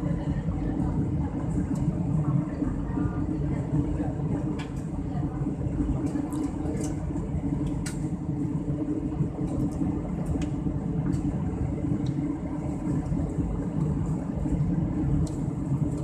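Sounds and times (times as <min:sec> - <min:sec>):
jet engine drone in cabin: 0:00.0 - 0:16.0.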